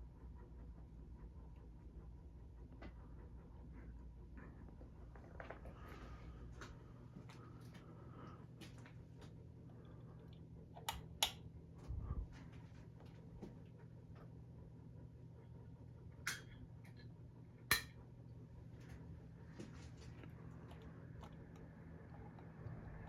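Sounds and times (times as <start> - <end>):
ceiling fan motor hum: 0.0 - 23.0.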